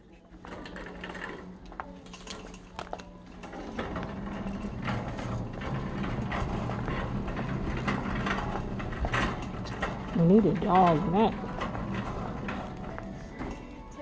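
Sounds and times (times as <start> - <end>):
shopping cart rattling: 0.3 - 14.0.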